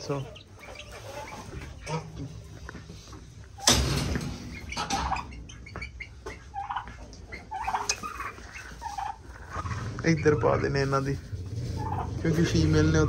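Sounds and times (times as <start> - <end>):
poultry calling: 0.0 - 13.0.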